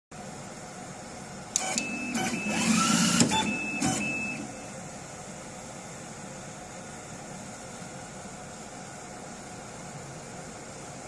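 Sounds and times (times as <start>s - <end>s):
steady high whine: 0.2s - 11.0s.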